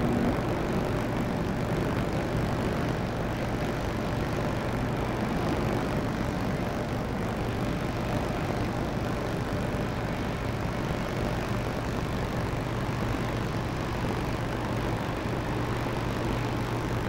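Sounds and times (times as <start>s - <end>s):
tugboat diesel engine drone: 0.0s - 17.0s.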